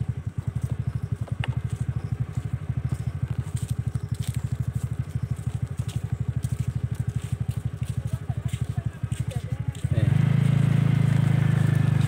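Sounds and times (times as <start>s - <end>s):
motorcycle engine puttering: 0.0s - 12.0s.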